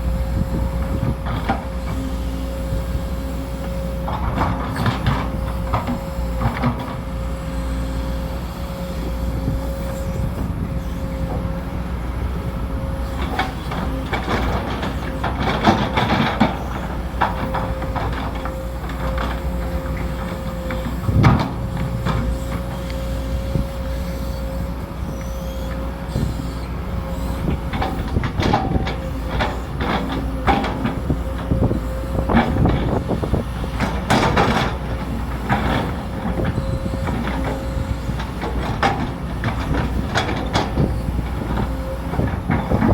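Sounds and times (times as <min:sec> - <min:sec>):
excavator engine rumble: 0:00.0 - 0:42.9.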